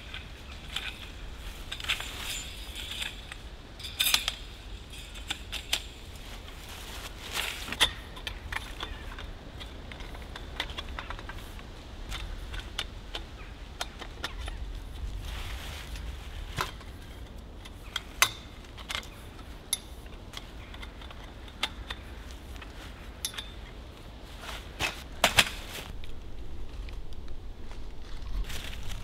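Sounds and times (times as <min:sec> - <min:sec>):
metal tent poles clinking: 0:00.0 - 0:27.0.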